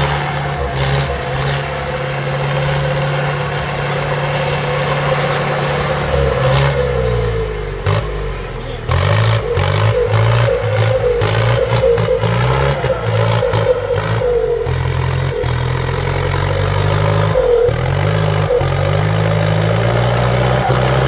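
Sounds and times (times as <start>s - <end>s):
heavy vehicle engine under load: 0.0s - 21.0s.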